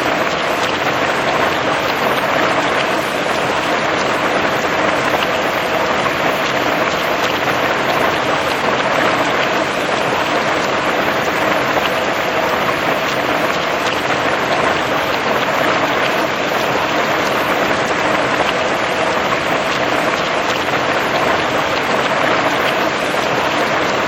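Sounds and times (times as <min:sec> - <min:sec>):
heavy rain on hard surface: 0:00.0 - 0:24.0.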